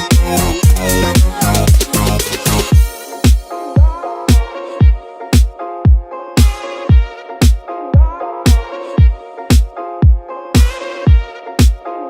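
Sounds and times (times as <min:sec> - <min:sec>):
electronic dance music: 0:00.0 - 0:12.0
synth chords: 0:00.0 - 0:12.0
kick drum: 0:00.1 - 0:02.0, 0:02.7 - 0:11.8.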